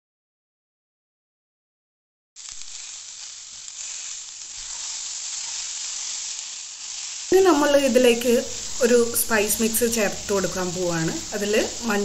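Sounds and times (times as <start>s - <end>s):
vegetables sizzling in oil: 2.4s - 12.0s.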